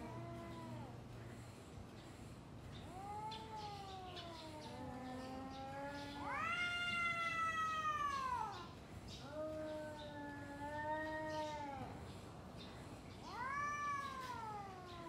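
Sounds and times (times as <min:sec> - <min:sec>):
cats yowling: 0:00.0 - 0:01.2, 0:02.8 - 0:12.1, 0:13.2 - 0:15.0.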